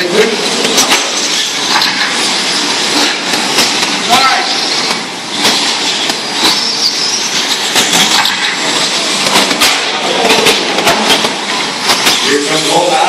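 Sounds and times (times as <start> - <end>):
steady rush of noise: 0.0 - 13.0
sharp clicks and knocks: 0.6 - 4.1, 4.7 - 12.3.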